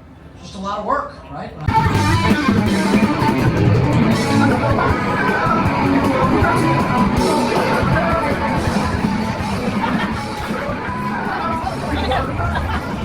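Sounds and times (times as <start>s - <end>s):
loud rock music with guitar: 1.7s - 13.0s.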